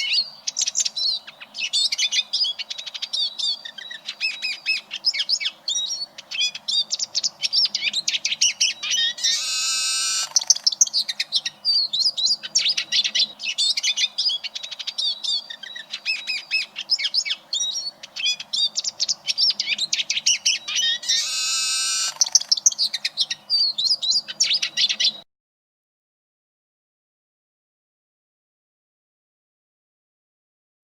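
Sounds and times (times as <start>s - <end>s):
siskin twittering song: 0.0s - 25.2s.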